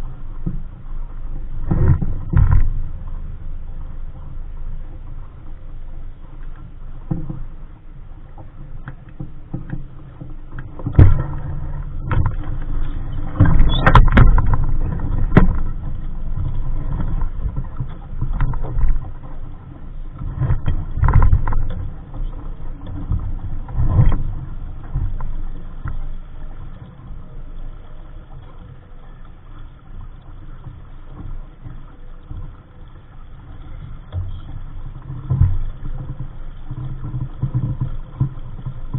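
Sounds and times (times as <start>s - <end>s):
hull knocks and splashes: 0.0s - 38.9s
wind and water rumble: 0.0s - 38.9s.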